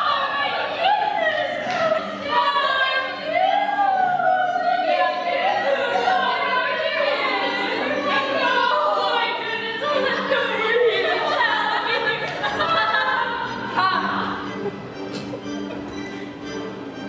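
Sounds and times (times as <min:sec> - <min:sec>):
operatic singing voices: 0:00.0 - 0:14.8.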